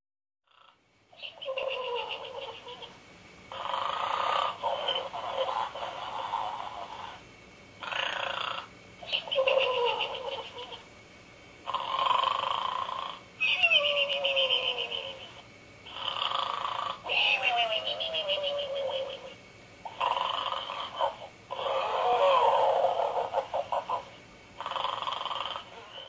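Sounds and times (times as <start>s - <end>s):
toy snoring sound: 0.5s - 2.9s, 3.5s - 7.2s, 7.8s - 10.8s, 11.6s - 26.0s.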